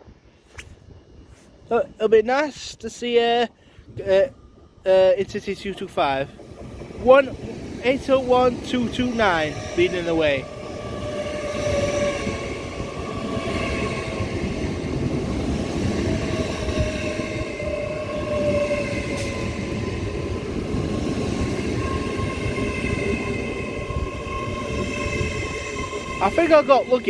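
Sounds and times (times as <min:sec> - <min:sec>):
faint train whining: 0:00.0 - 0:27.0
train rumble: 0:02.8 - 0:27.0.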